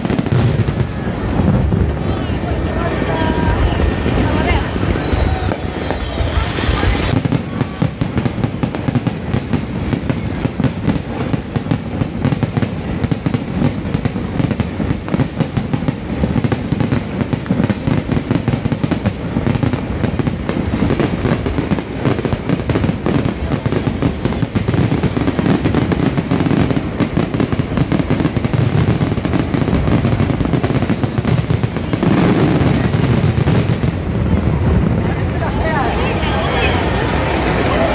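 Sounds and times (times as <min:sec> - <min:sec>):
fireworks bangs and crackling: 0:00.0 - 0:37.9.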